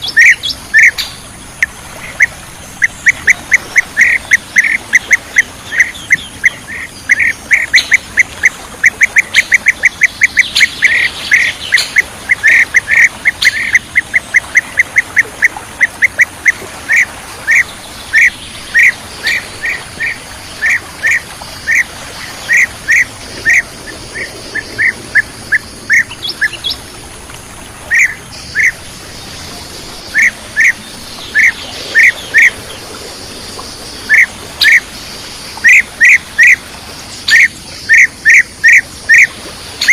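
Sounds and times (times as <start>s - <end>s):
other birds calling: 0.0s - 33.0s, 33.8s - 36.6s, 37.2s - 39.9s.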